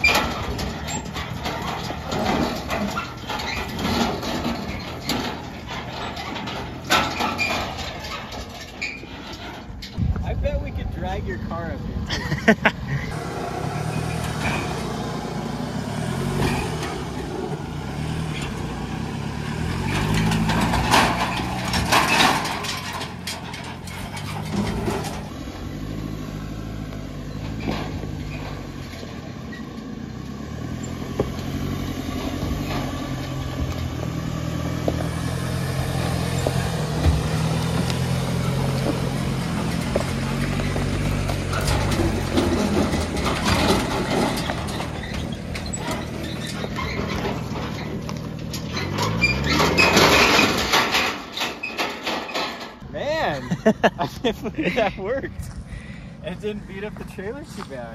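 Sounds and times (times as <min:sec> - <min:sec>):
truck engine labouring: 0:00.0 - 0:57.9.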